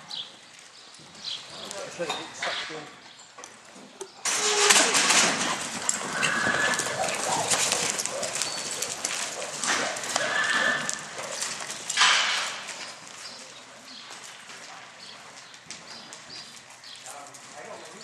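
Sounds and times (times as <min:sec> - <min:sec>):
hoofbeats on soft dirt: 0:00.1 - 0:02.1, 0:05.5 - 0:18.0.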